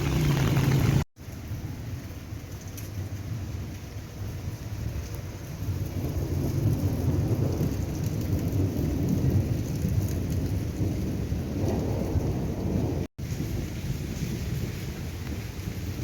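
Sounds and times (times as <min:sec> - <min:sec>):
stormy rain: 0:00.0 - 0:16.0
thunder rumbling: 0:00.0 - 0:16.0.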